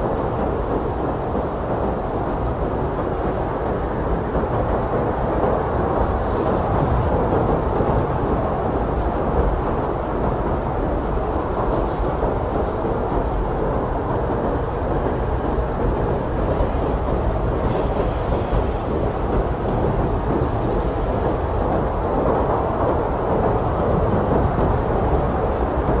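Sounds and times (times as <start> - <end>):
blizzard wind rumbling: 0.0 - 26.0.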